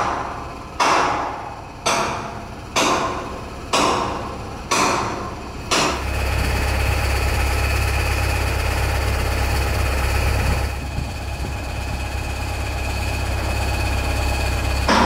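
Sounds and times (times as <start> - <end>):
machinery engine humming: 0.0 - 15.0.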